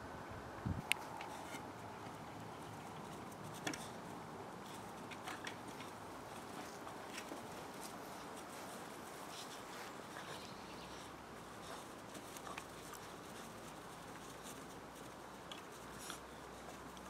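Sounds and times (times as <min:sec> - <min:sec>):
puppies scuffling on grass: 0:00.9 - 0:17.0.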